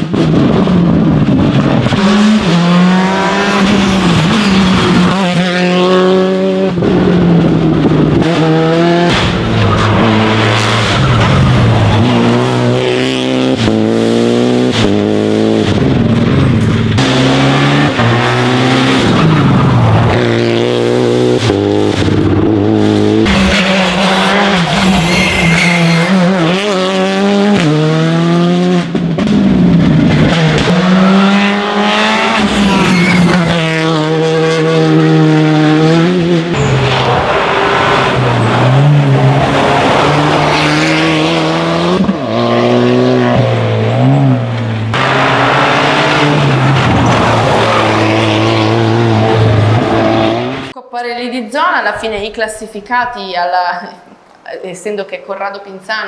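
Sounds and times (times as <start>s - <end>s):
rally car engine driven hard: 0.0s - 50.8s.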